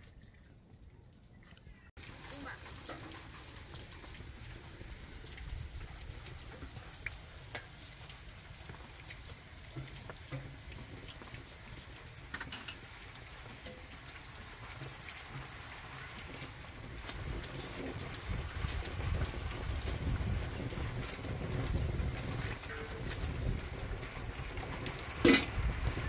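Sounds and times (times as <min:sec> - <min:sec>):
wood fire crackling: 0:01.9 - 0:26.0.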